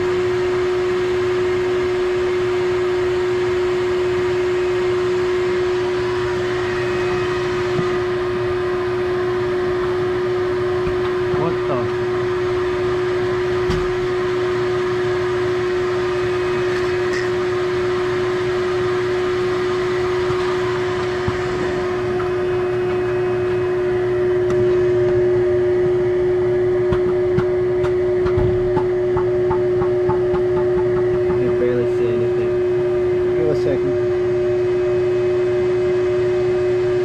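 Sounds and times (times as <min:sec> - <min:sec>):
vacuum motor humming: 0:00.0 - 0:37.0.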